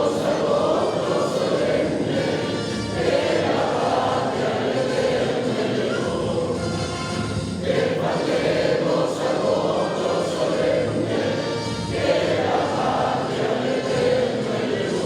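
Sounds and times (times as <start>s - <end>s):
choir singing: 0.0s - 15.0s
musical accompaniment: 0.0s - 15.0s.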